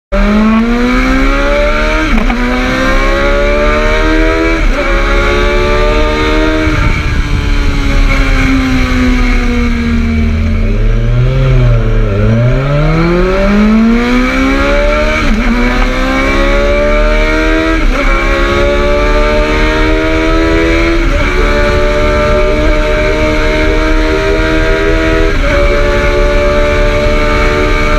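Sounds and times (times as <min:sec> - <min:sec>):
motorcycle engine accelerating: 0:00.1 - 0:27.9.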